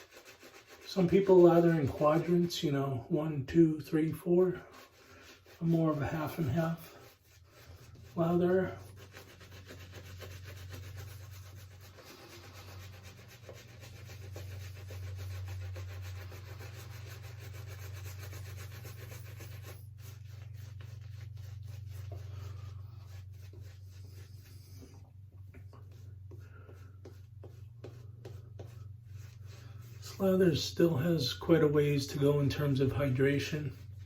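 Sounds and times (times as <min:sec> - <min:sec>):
shaving brush scrubbing stubble: 0:00.0 - 0:02.9, 0:03.7 - 0:34.0.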